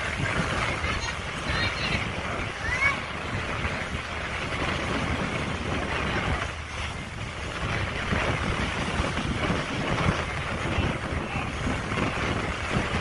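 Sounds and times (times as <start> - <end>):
outdoor rumble and hiss: 0.0 - 13.0
wind buffeting microphone: 0.0 - 13.0.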